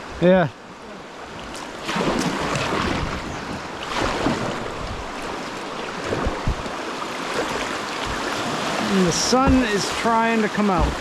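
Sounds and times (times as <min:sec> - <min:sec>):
river water rushing: 0:00.0 - 0:11.0
kayak paddle splashing: 0:01.0 - 0:11.0.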